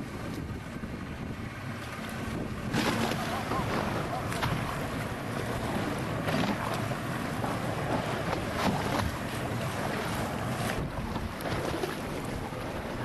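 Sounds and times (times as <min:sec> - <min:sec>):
wind buffeting microphone: 0:00.0 - 0:13.0
water sloshing and splashing: 0:01.4 - 0:13.0.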